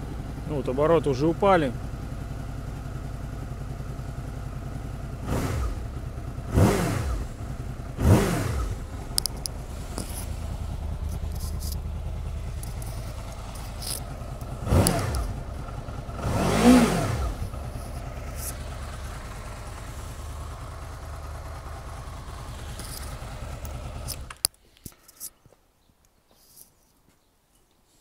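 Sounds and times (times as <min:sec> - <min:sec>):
motorcycle engine idling and revving: 0:00.0 - 0:25.3.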